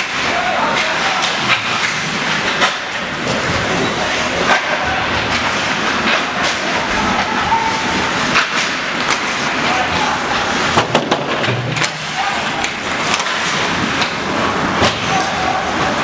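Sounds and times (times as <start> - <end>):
hockey sticks and puck clicking: 0.0 - 7.3, 8.1 - 16.0
skates scraping ice: 0.1 - 16.0.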